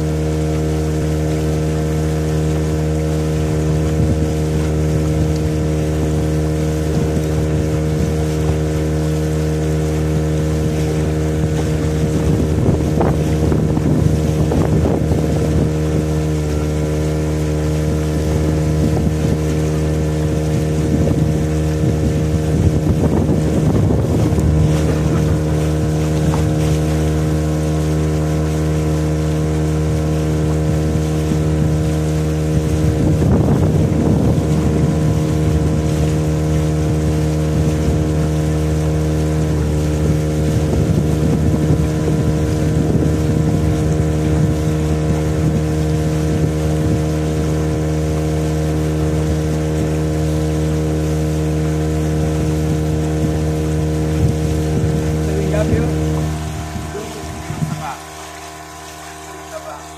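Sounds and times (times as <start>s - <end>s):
motorboat engine humming: 0.0s - 59.9s
wind on microphone: 0.0s - 59.9s.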